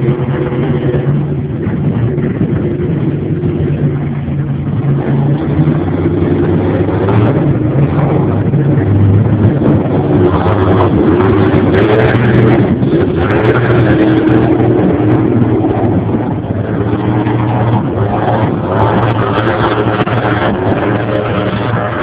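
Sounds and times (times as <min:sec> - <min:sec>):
jet boat engine running: 0:00.0 - 0:22.0.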